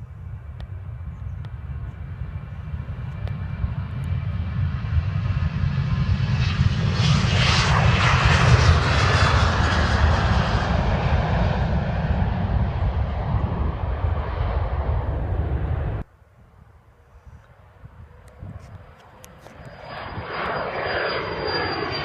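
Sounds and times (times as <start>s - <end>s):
airliner engines passing: 0.0s - 22.0s.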